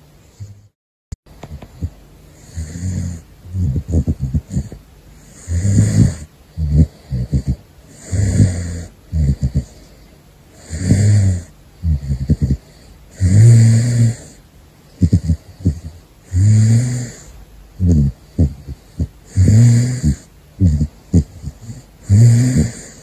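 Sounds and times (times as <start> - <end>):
animal snoring: 0.3 - 0.8, 1.5 - 14.4, 15.0 - 23.0.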